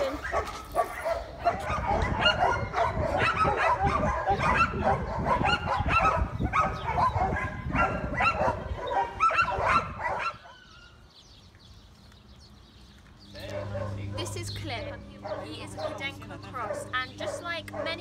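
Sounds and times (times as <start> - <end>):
dogs barking and yelping: 0.0 - 11.0, 13.4 - 14.4, 15.1 - 18.0.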